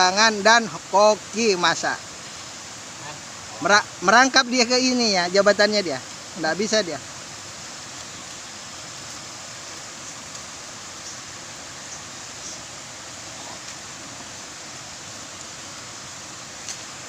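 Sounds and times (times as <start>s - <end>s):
flowing stream water: 0.0s - 17.0s.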